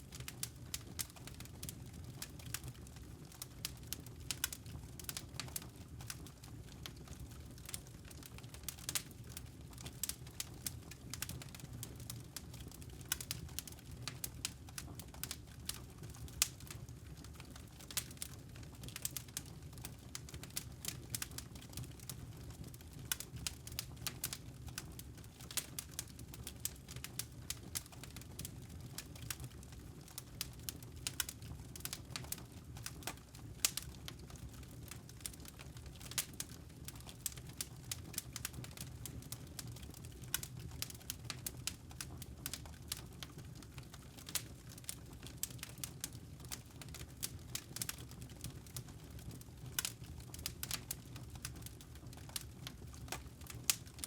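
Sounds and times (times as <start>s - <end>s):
low rumble of flames: 0.0s - 54.0s
campfire crackling: 0.1s - 54.0s.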